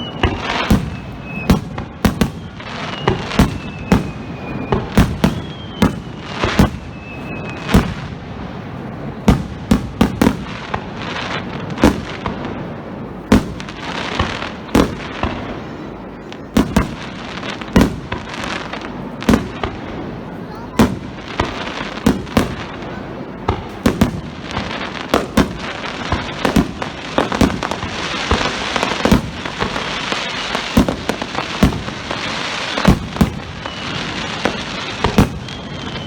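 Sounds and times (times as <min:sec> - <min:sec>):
firework crackling: 0:00.0 - 0:36.0
whistling fireworks: 0:00.0 - 0:36.0.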